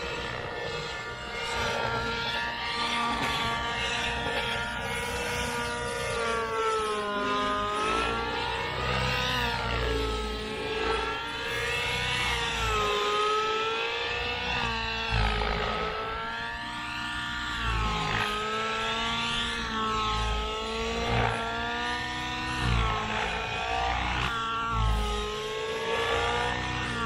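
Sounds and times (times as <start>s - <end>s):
model helicopter engine whine: 0.0s - 27.0s.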